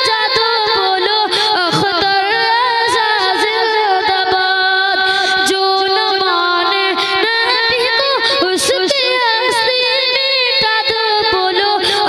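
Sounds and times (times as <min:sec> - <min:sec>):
boy singing into microphone: 0:00.0 - 0:12.0.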